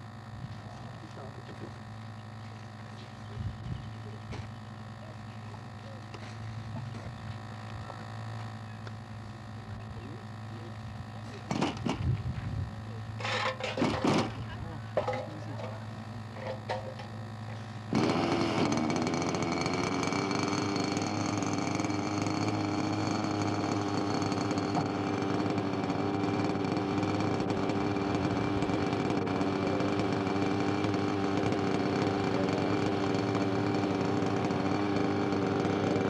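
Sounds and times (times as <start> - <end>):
model aircraft engine buzzing: 0.0 - 36.0.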